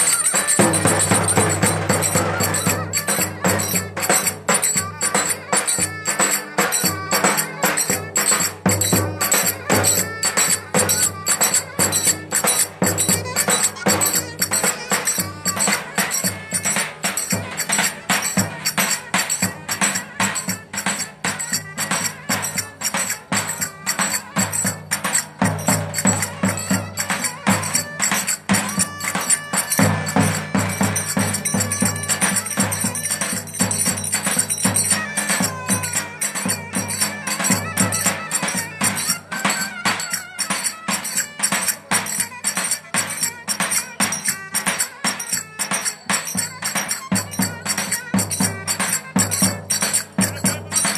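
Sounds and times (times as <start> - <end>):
folk dance melody: 0.0 - 50.9
jingling percussion beat: 0.0 - 50.9.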